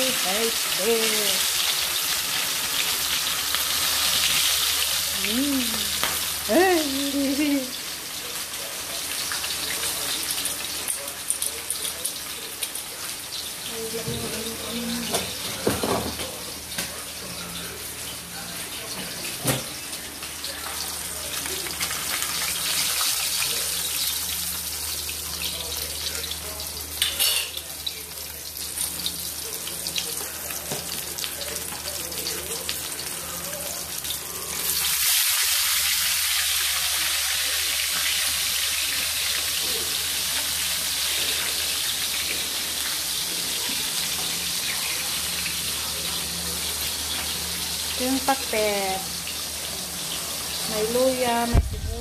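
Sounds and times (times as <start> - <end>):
fish sizzling in oil: 0.0 - 52.0.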